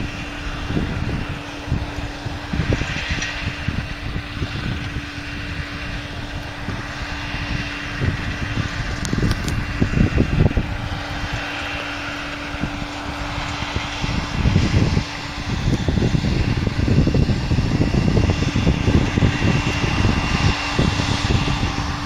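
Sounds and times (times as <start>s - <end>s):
harvester engine hum: 0.0s - 22.0s
low rumbles: 0.0s - 22.0s.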